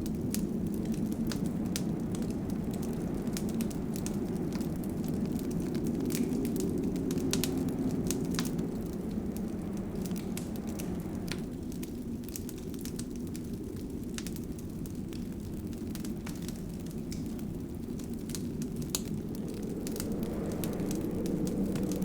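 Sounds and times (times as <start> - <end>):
fire crackles and pops: 0.0 - 22.0
fire low rush: 0.0 - 22.0.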